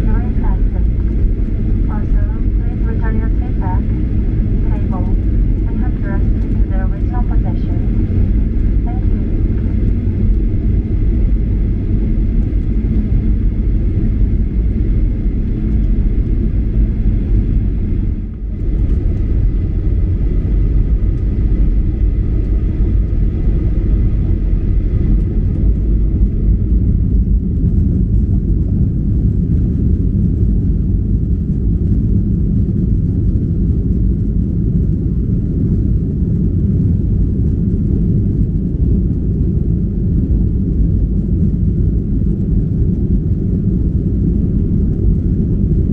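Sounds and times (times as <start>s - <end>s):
airplane cabin rumble: 0.0s - 45.9s
faint engine whine: 0.0s - 45.9s.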